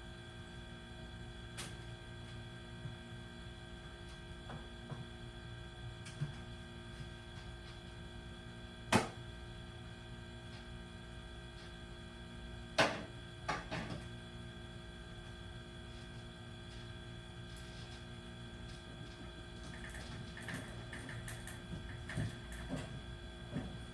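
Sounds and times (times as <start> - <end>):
steady electrical hum: 0.0 - 23.9.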